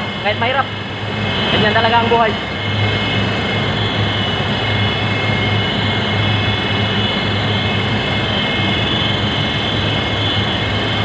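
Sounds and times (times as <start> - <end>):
fans droning: 0.0 - 11.0
high whining tones: 0.0 - 11.0.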